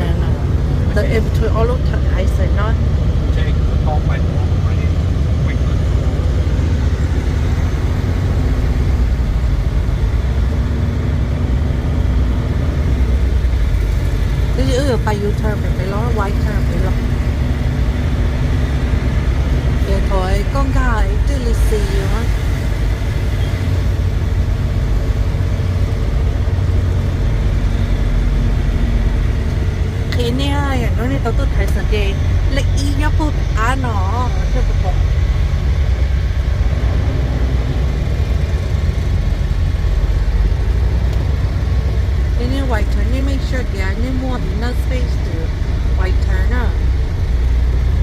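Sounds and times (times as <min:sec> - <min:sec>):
road noise: 0:00.0 - 0:48.0
truck engine running: 0:00.0 - 0:48.0.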